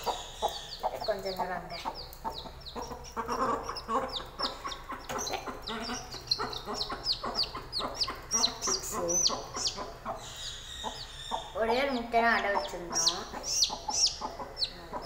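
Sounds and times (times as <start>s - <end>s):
chick peeping: 0.0s - 15.0s
hen clucking: 0.0s - 15.0s.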